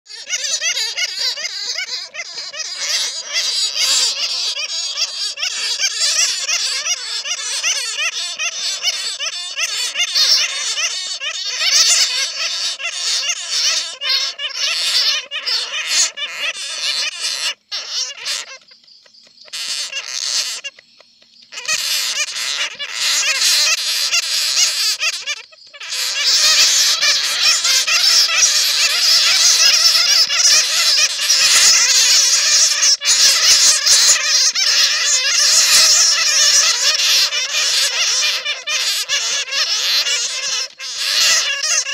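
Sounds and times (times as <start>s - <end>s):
bats squeaking and chattering: 0.1s - 41.9s.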